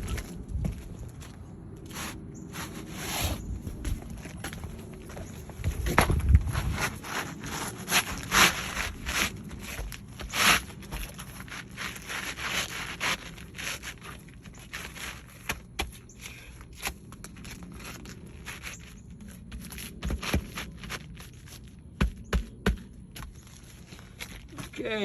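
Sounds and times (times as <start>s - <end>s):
footsteps scraping on shingles: 0.0s - 25.0s.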